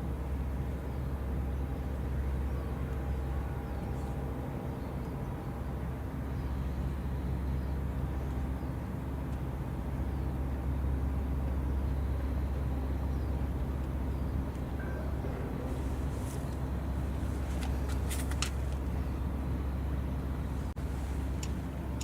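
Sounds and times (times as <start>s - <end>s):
faint humming tones: 0.0s - 22.0s
low engine rumble: 0.0s - 22.0s.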